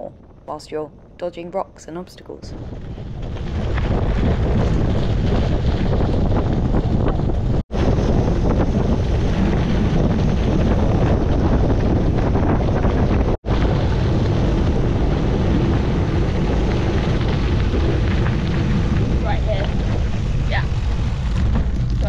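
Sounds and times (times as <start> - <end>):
wind buffeting microphone: 0.0 - 22.0
bike tyres rolling on gravel: 2.6 - 22.0.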